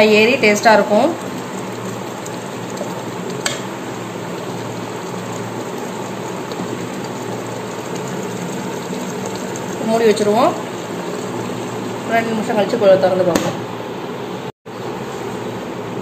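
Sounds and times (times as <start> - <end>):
gravy bubbling and sizzling: 0.0 - 13.3.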